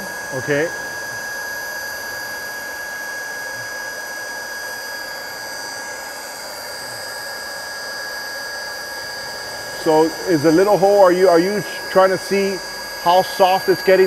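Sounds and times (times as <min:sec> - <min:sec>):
hot-air gun blower hissing: 0:00.0 - 0:14.0.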